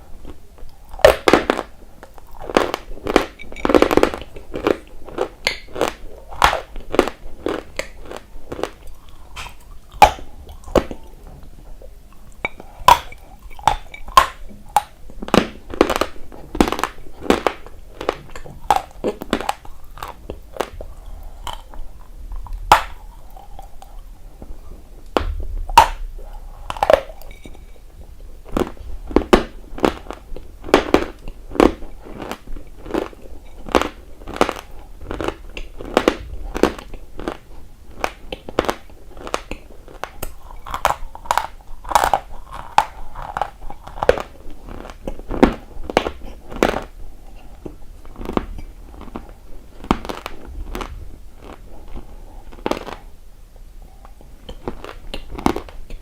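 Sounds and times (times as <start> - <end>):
person chewing dry crunchy clay: 0.0 - 56.0.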